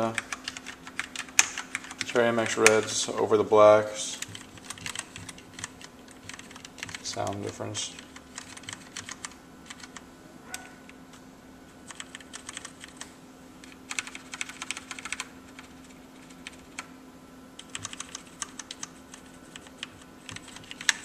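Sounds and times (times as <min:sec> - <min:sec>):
mechanical keyboard typing: 0:00.0 - 0:02.9, 0:04.2 - 0:10.0, 0:11.9 - 0:16.9, 0:17.6 - 0:21.0.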